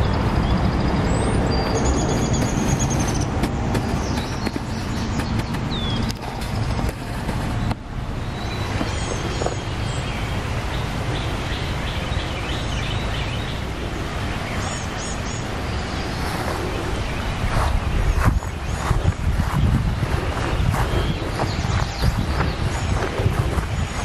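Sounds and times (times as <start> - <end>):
birds chirping and singing: 0.0 - 24.0
steady low rumble: 0.0 - 24.0.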